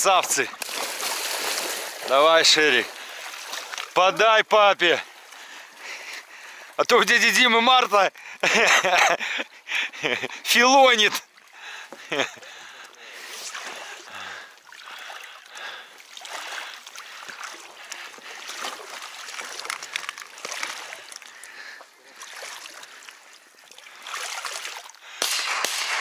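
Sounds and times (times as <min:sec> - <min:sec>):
water splashing and trickling: 0:00.0 - 0:25.2.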